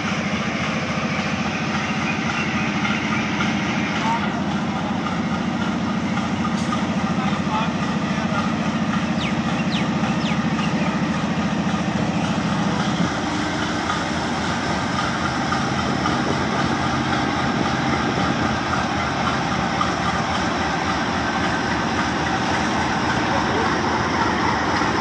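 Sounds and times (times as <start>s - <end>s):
diesel locomotive engine droning: 0.0s - 25.0s.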